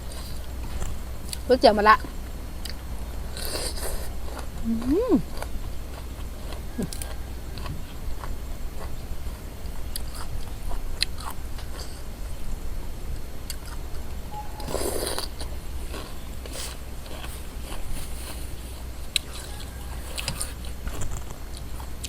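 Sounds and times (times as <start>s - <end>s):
chewing and crunching food: 0.0s - 14.0s, 14.7s - 22.0s.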